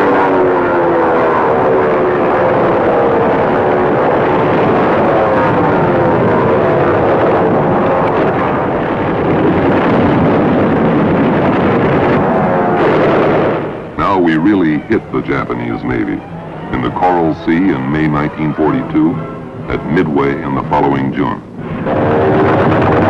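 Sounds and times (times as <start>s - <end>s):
propeller aircraft engines: 0.0s - 23.0s.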